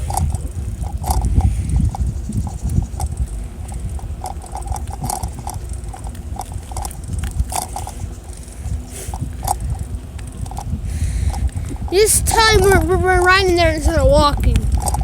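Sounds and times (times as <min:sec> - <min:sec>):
bicycle clicks and squeaks: 0:00.0 - 0:15.0
wind rumble on microphone: 0:00.0 - 0:15.0.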